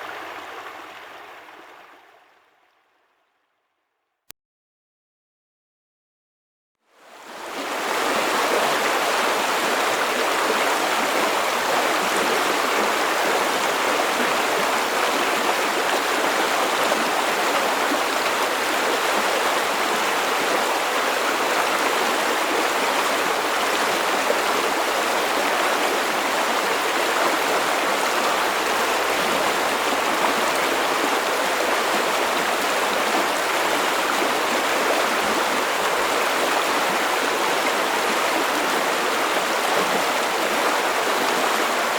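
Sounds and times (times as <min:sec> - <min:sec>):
river water flowing: 0:00.0 - 0:03.0, 0:07.0 - 0:41.9.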